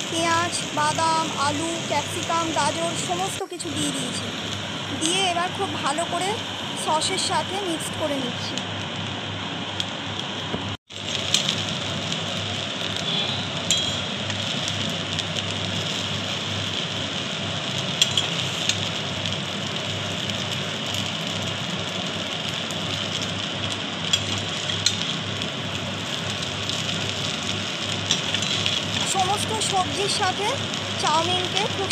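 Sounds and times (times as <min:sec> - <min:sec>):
noodles sizzling in a wok: 0:00.0 - 0:31.9.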